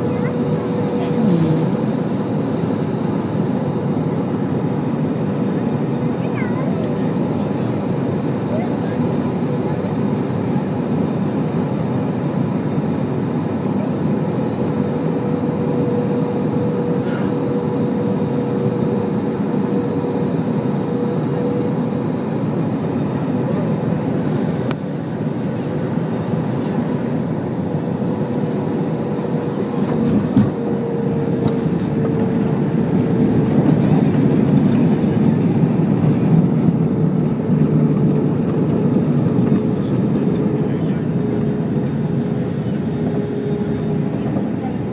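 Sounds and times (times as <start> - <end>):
airliner cabin engine and airflow noise: 0.0 - 44.9.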